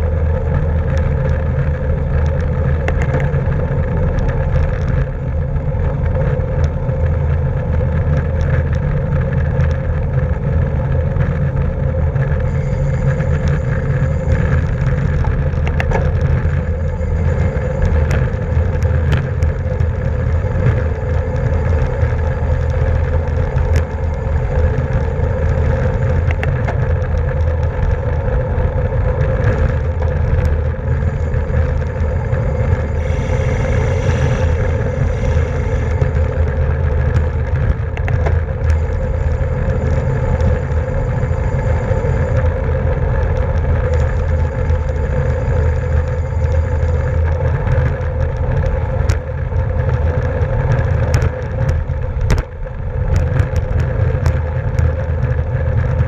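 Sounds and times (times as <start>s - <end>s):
bicycle rolling hum: 0.0s - 56.0s
wind rush: 0.0s - 56.0s.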